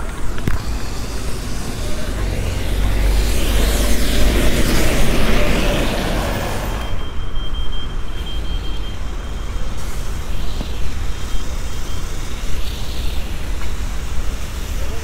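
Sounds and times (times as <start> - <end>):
bus passing on wet road: 0.0 - 7.2, 8.4 - 15.0
low traffic rumble: 0.0 - 15.0
high electronic beeps: 0.7 - 13.3.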